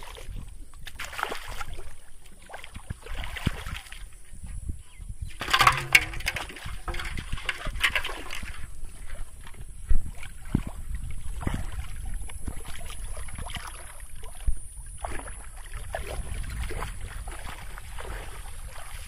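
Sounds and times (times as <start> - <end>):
water splashing and sloshing: 0.0 - 4.6, 5.2 - 19.0.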